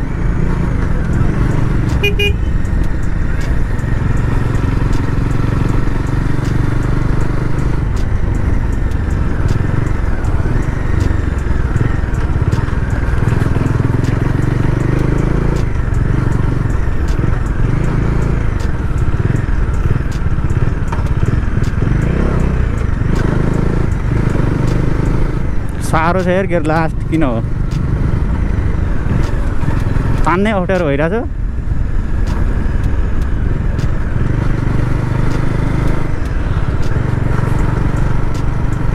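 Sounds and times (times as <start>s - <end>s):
motorcycle engine running: 0.0s - 38.9s
wind and road rumble: 0.0s - 38.9s.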